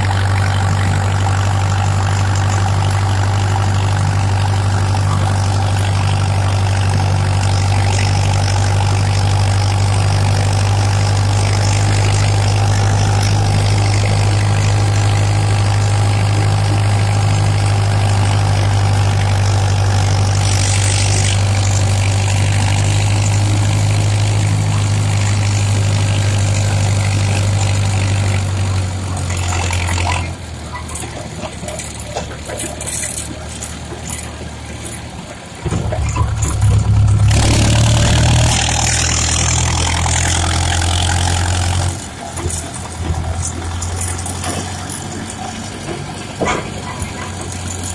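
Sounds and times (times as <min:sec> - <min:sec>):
tractor diesel engine droning: 0:00.0 - 0:47.9.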